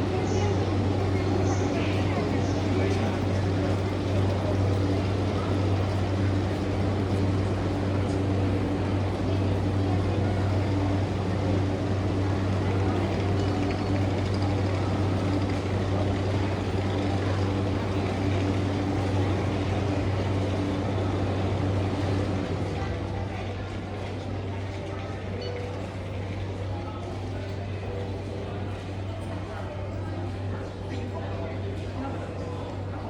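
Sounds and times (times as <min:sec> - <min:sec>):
electric train car humming: 0:00.0 - 0:33.0.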